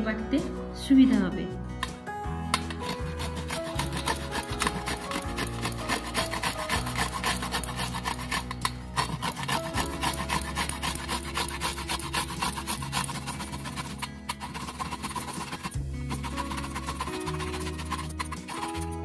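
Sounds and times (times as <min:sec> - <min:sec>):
soft background music: 0:00.0 - 0:19.0
grater rasping strokes: 0:02.6 - 0:19.0.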